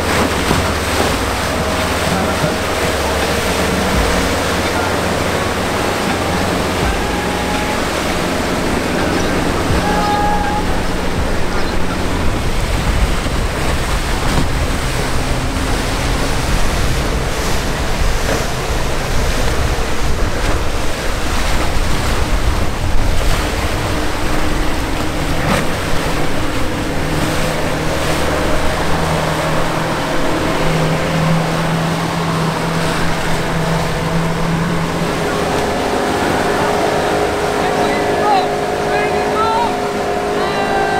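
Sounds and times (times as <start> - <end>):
choppy water rushing: 0.0 - 40.9
outboard motors humming: 0.0 - 40.9
wind on microphone: 0.0 - 40.9.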